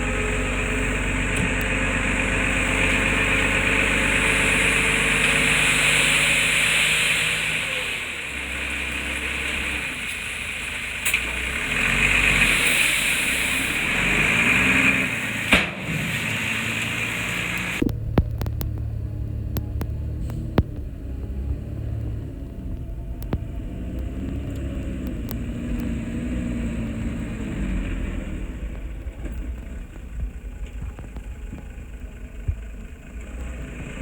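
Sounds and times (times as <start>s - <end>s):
heavy machinery diesel engine: 0.0s - 34.0s.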